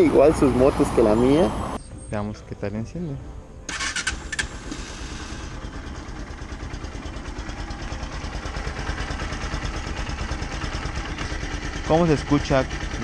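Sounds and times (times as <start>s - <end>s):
motorcycle engine idling: 0.0s - 1.8s, 3.8s - 13.0s.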